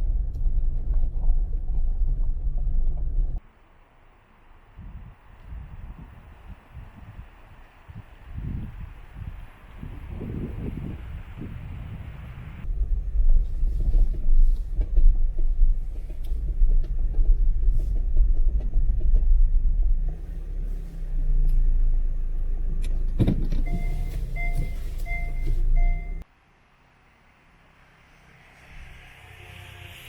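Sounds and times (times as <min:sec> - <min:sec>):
car cabin road noise: 0:00.1 - 0:26.3.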